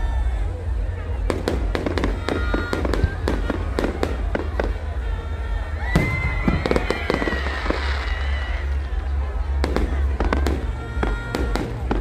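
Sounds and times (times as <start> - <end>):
fireworks bangs and crackles: 0.2 - 12.0.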